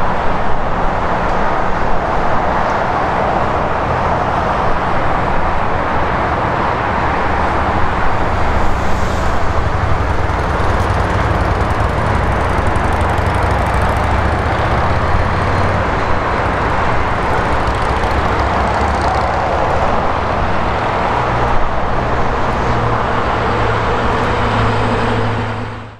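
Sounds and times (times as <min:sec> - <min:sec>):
engine rumble: 0:03.6 - 0:25.9.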